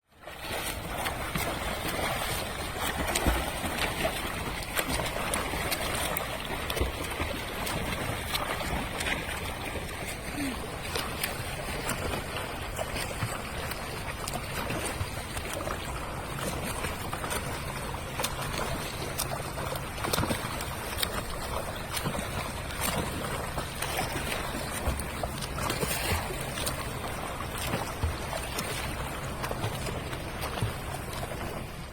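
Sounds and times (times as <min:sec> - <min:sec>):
seawater splashing and lapping: 0:00.0 - 0:31.9.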